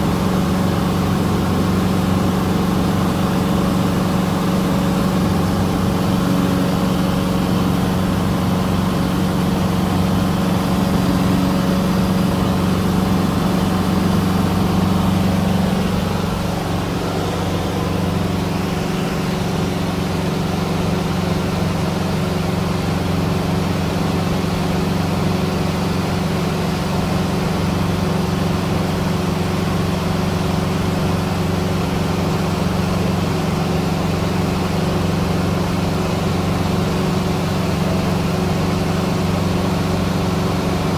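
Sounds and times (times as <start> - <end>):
light aircraft engine droning in cabin: 0.0 - 40.9.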